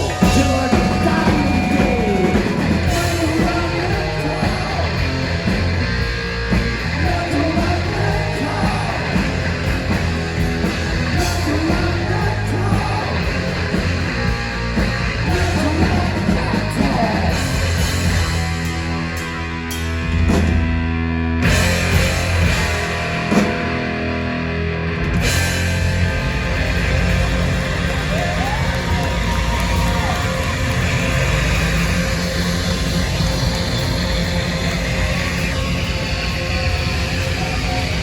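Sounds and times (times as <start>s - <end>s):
heavy metal band playing: 0.0s - 38.0s.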